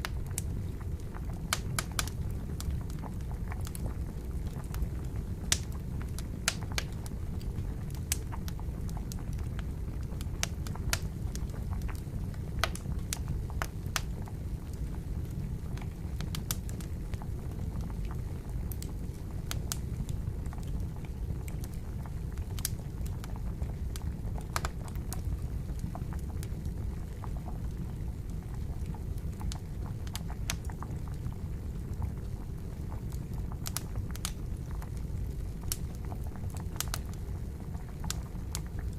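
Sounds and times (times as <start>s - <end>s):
campfire crackling and popping: 0.0s - 38.9s
water boiling: 0.0s - 38.9s.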